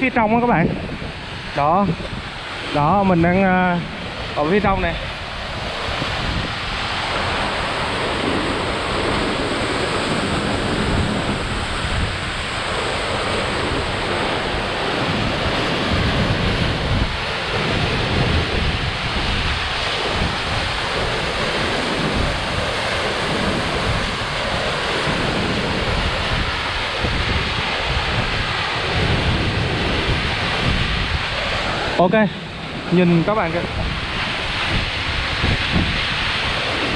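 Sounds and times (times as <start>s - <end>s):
air gusts buffeting microphone: 0.0s - 36.9s
waterfall roaring: 0.0s - 36.9s.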